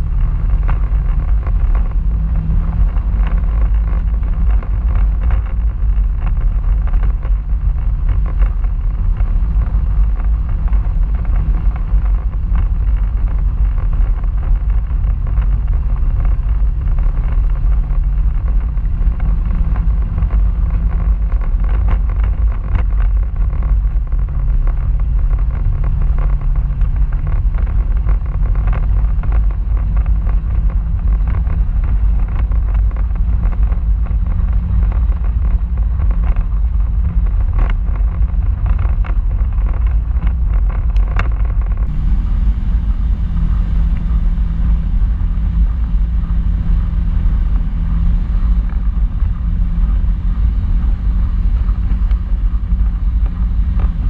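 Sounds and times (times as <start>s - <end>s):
off-road vehicle engine droning: 0.0s - 54.0s
sharp clicks and rattles: 0.0s - 54.0s.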